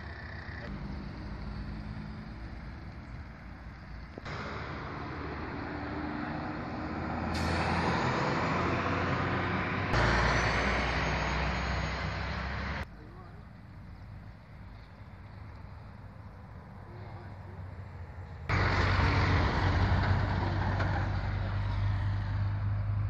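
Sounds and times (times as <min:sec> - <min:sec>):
heavy vehicle engine and tyre rumble: 0:00.0 - 0:23.0.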